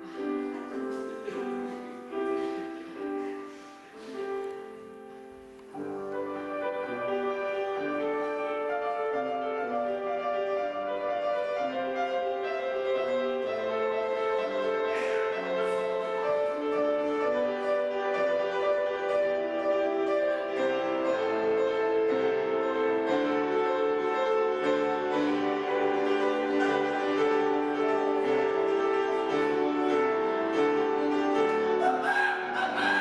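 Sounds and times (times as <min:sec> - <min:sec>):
grand piano playing: 0:00.0 - 0:33.0.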